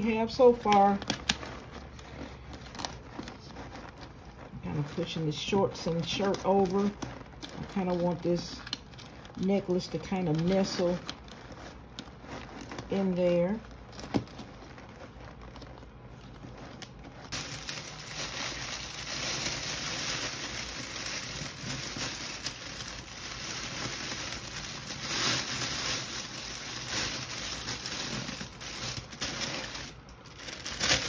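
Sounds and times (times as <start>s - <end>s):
cellophane wrap crinkling: 0.0s - 31.0s.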